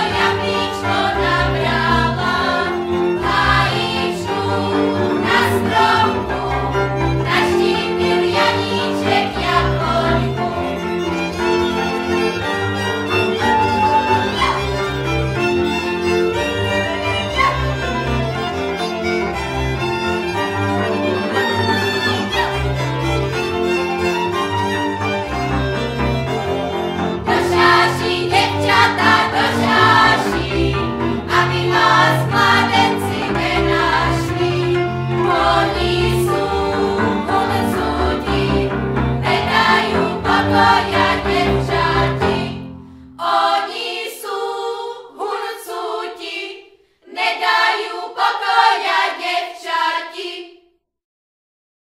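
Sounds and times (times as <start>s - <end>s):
group singing folk song: 0.0s - 23.6s, 26.4s - 50.6s
fiddle-led string band: 0.0s - 42.8s.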